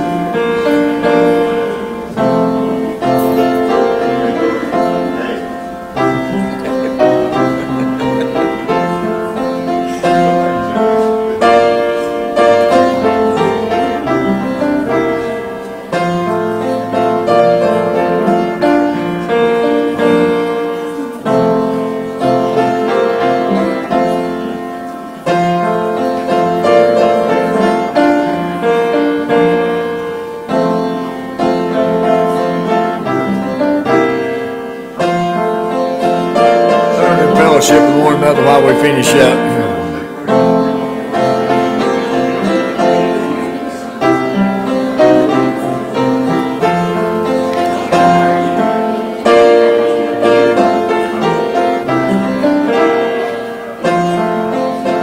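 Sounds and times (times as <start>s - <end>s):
slow piano chords: 0.0s - 55.0s.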